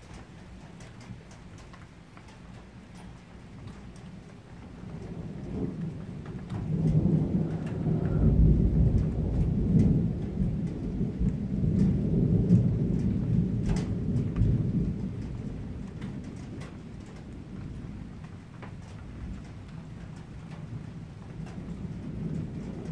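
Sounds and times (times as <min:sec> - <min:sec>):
raindrops tapping: 0:00.0 - 0:22.9
thunder rumbling: 0:00.0 - 0:22.9.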